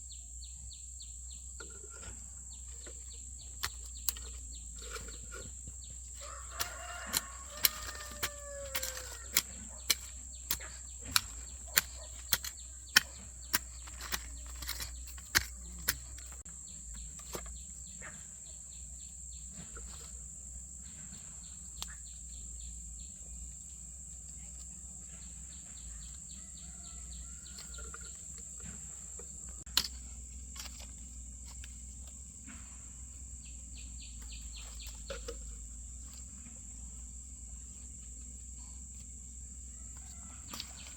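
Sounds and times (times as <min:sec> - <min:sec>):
crickets droning: 0:00.0 - 0:40.9.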